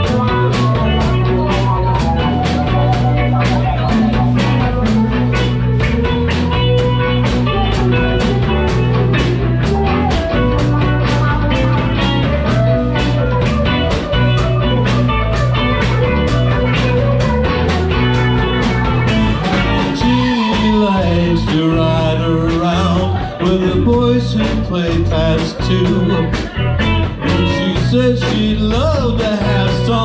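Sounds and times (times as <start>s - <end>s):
bass: 0.0s - 30.0s
drums: 0.0s - 30.0s
guitar: 0.0s - 30.0s.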